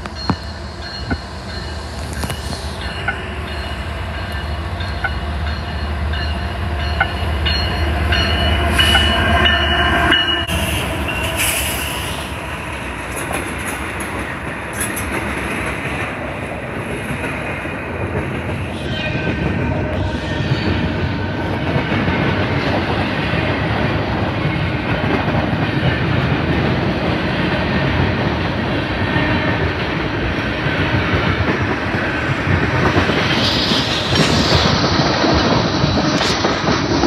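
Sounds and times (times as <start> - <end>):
diesel locomotive rumble: 0.0 - 37.0.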